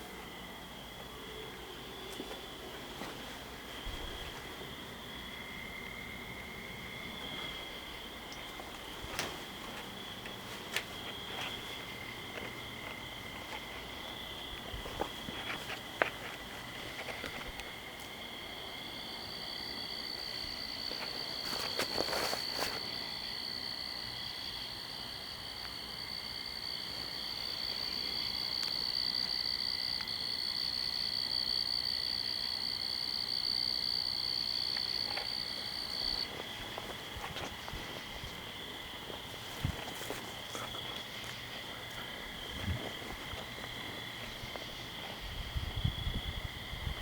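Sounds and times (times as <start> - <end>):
crickets trilling: 0.0 - 47.0.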